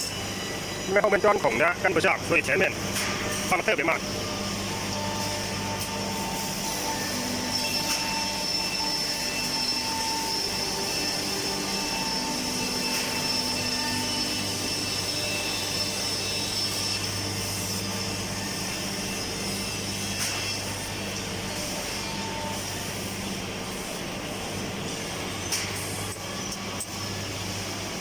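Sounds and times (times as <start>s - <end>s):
woodworking machinery droning: 0.0s - 28.0s.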